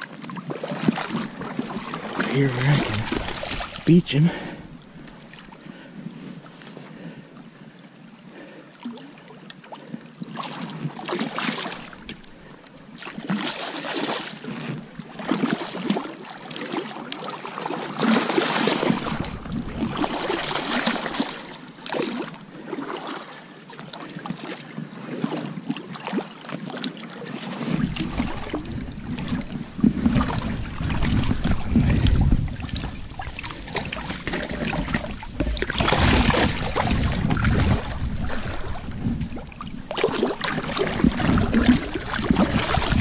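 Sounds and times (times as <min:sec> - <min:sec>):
water splashing and sloshing: 0:00.0 - 0:43.0.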